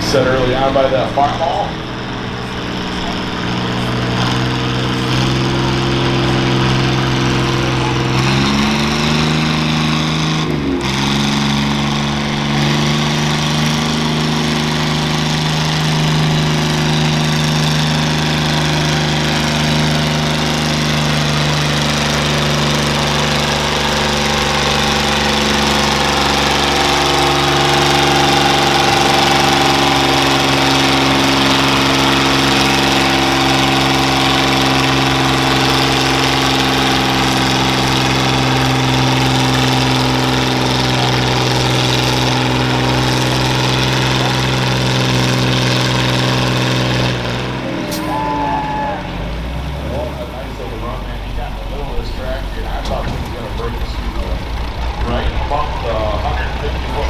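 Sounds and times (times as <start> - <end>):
tractor engine running hard: 0.0 - 57.0.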